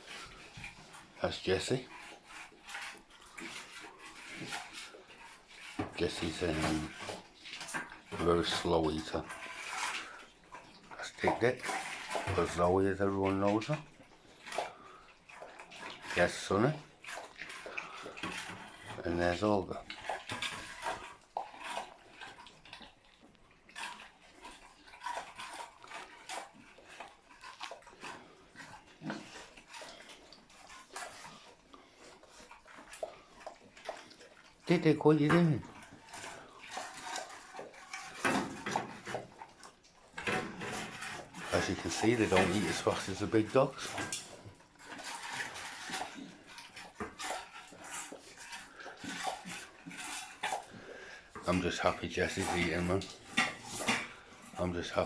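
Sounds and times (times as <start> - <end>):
pets chewing and licking: 0.0 - 55.0.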